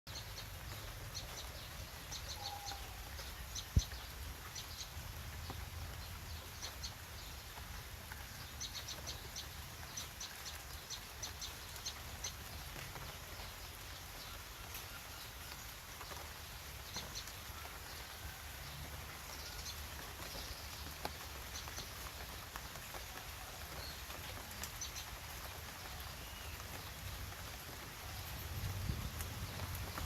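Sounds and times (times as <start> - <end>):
birds chirping: 0.1 - 30.0.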